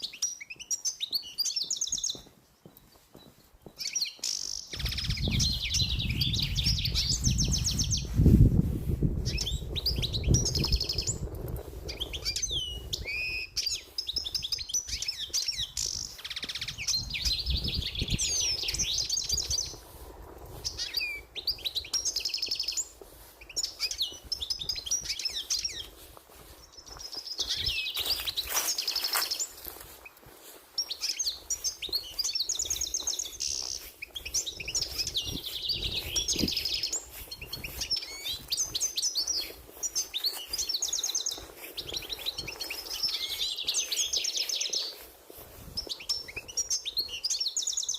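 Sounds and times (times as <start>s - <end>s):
small songbirds twittering: 0.0s - 47.9s.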